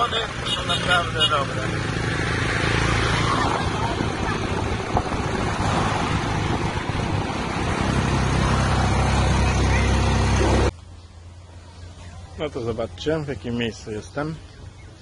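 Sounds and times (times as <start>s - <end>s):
vehicle engine running steadily: 0.0s - 15.0s
wind and road noise: 0.0s - 15.0s.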